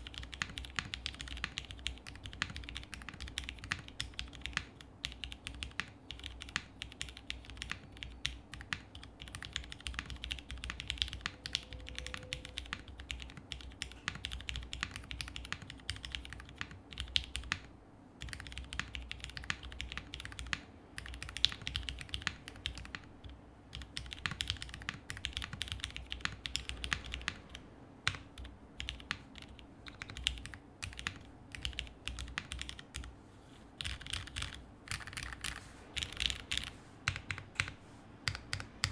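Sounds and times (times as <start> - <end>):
fast typing on mechanical keyboard: 0.0 - 33.1, 33.8 - 38.9.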